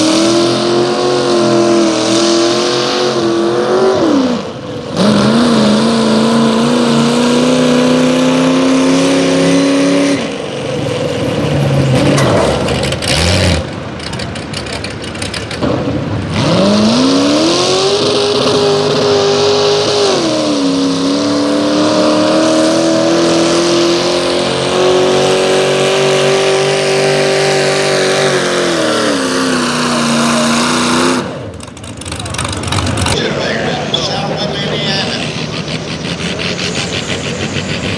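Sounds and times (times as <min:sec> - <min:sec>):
vehicle engine revving hard: 0:00.0 - 0:37.9.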